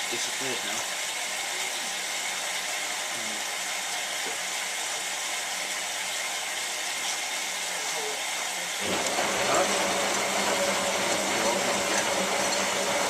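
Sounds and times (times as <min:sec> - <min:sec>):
washing machine rushing hiss: 0:01.5 - 0:13.0.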